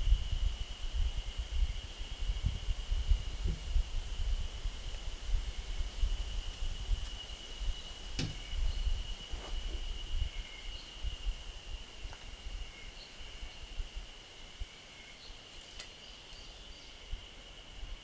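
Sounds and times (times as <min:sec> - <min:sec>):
wind rumble on microphone: 0:00.0 - 0:14.7
high insect drone: 0:00.0 - 0:18.0.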